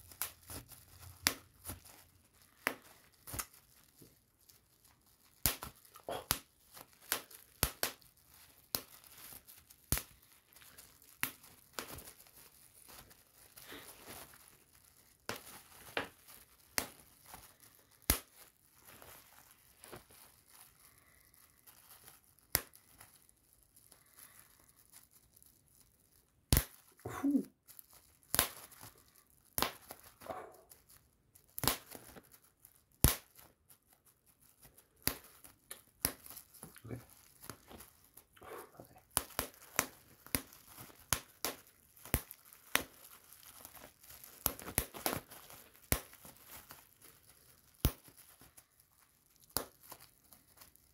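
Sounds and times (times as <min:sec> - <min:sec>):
bubble wrap popping: 0:00.0 - 0:50.9
plastic crinkling: 0:00.0 - 0:50.9.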